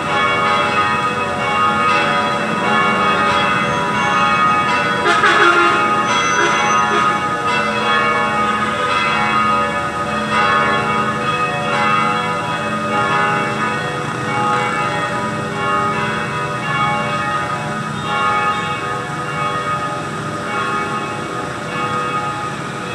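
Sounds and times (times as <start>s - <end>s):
church bells ringing: 0.0s - 22.9s.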